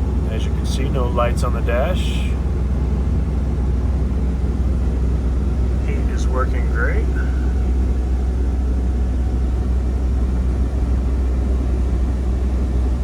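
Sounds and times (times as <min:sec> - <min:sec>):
engine idling inside cab: 0:00.0 - 0:13.0.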